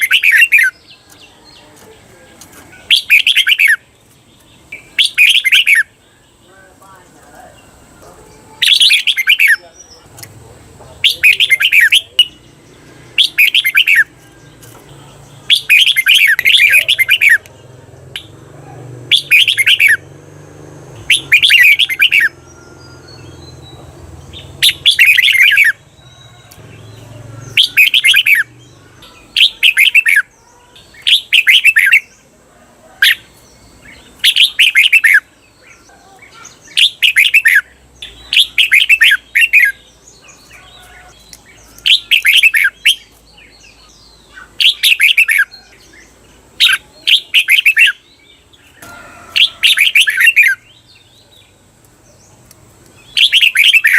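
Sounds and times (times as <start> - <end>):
bulbul singing: 0.0 - 53.9.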